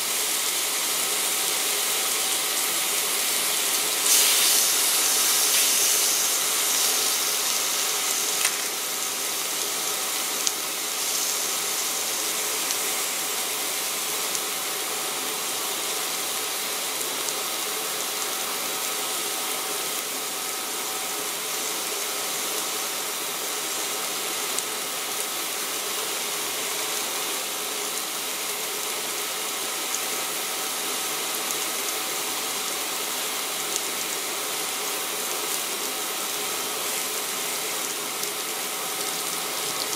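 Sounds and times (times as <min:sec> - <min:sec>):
steak sizzling in a pan: 0:00.0 - 0:39.9.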